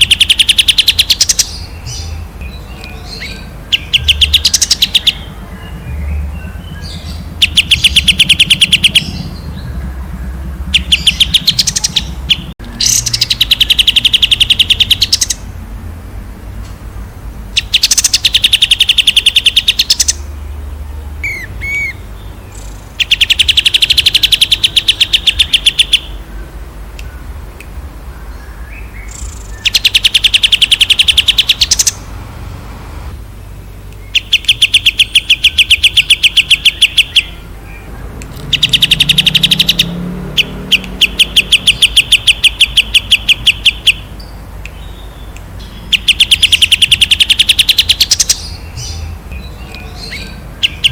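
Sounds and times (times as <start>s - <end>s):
songbird singing rapid trills: 0.0s - 15.6s, 17.4s - 32.2s, 33.3s - 50.9s.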